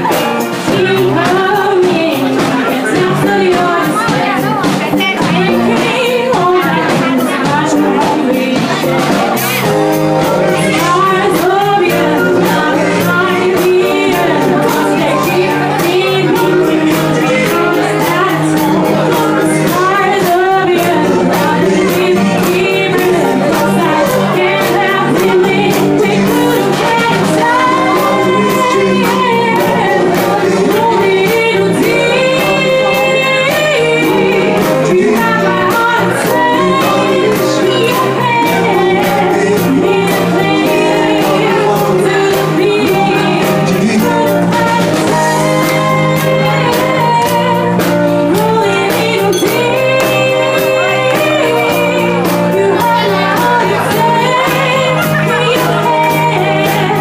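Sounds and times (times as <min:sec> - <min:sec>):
live band with guitar and keyboards: 0:00.0 - 0:57.0
woman singing into a microphone: 0:00.0 - 0:57.0.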